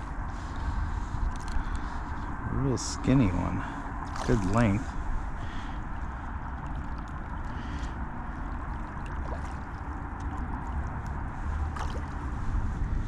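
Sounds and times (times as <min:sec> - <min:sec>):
wind noise on microphone: 0:00.0 - 0:13.0
small waves lapping: 0:00.3 - 0:13.0.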